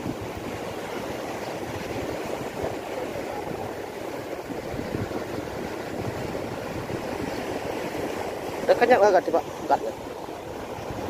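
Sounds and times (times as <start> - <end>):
surf breaking on rocks: 0.0 - 11.0.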